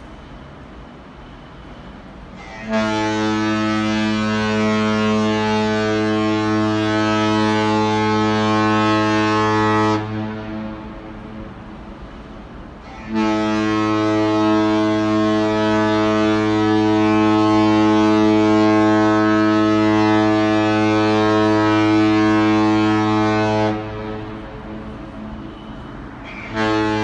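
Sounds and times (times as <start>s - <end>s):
ship's horn long deep blast: 2.4s - 12.2s, 12.8s - 27.0s.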